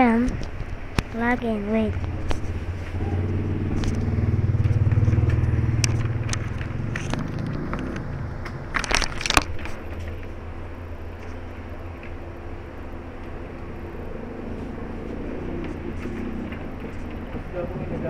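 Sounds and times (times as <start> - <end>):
vehicle engine passing: 1.8 - 18.0.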